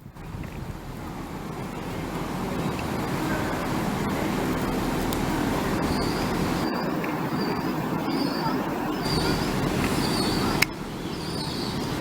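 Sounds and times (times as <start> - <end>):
train moving low drone: 0.0 - 12.0.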